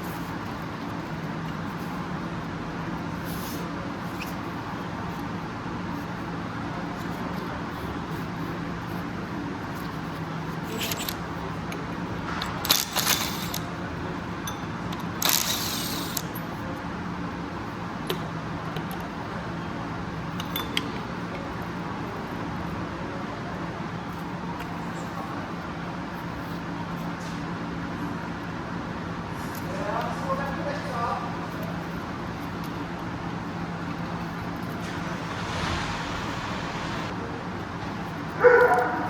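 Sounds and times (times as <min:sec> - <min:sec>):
low workshop hum: 0:00.0 - 0:39.0.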